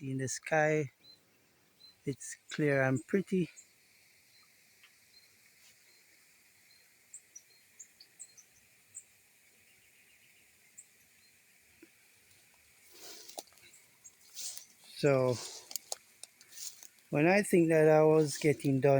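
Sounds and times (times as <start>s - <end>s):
insects droning: 0.0s - 18.9s.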